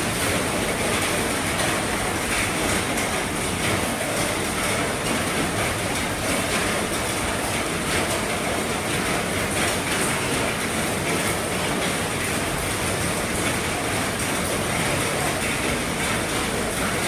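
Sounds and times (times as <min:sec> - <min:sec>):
heavy rain on a roof: 0:00.0 - 0:17.0.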